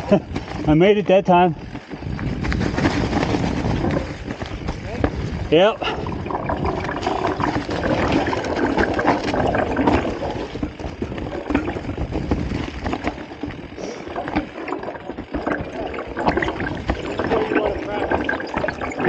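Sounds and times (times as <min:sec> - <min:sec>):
bike tyres rolling over dry leaves: 0:00.0 - 0:19.0.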